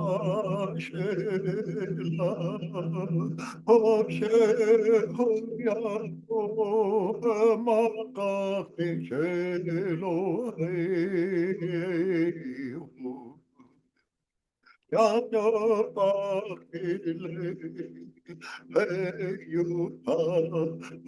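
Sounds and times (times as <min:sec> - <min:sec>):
man singing with vibrato: 0:00.0 - 0:13.4, 0:14.9 - 0:21.0.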